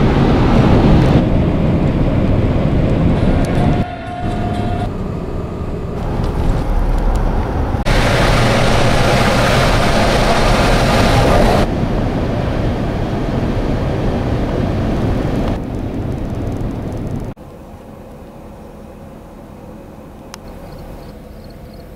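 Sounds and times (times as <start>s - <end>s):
vehicle road and wind noise: 0.0s - 21.9s.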